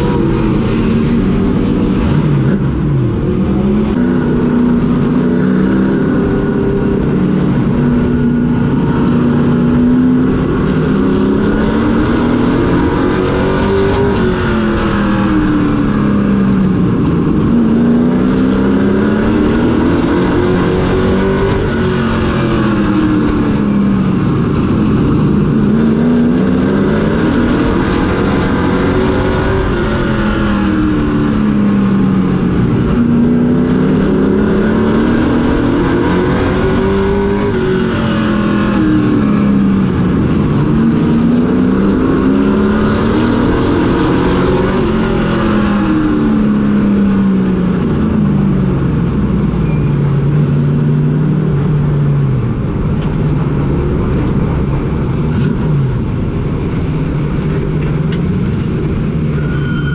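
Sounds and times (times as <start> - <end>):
race truck engine revving: 0.0 - 59.9.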